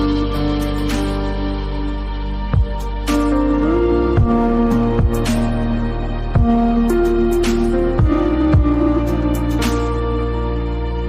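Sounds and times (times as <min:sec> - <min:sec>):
steady bass: 0:00.0 - 0:11.0.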